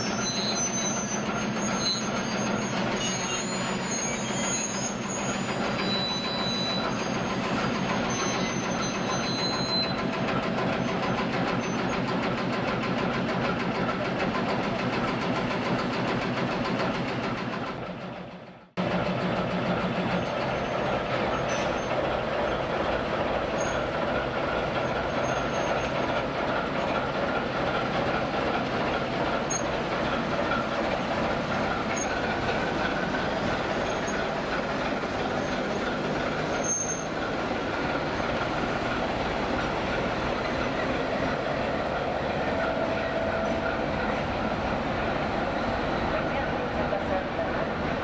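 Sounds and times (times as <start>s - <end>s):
diesel locomotive engine running: 0.0s - 48.0s
train on the rails: 0.0s - 48.0s.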